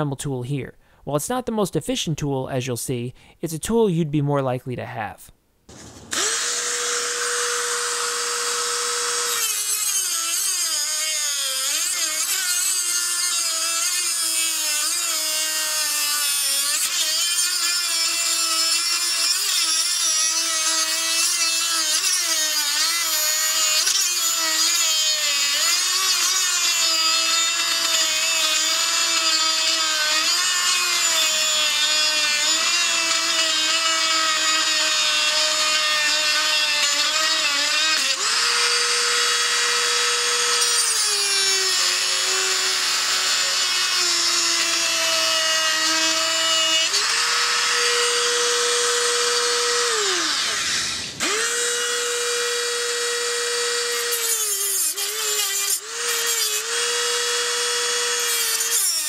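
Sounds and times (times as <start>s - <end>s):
cutoff wheel grinding metal: 5.7s - 59.0s
rotary tool whining: 5.7s - 59.0s.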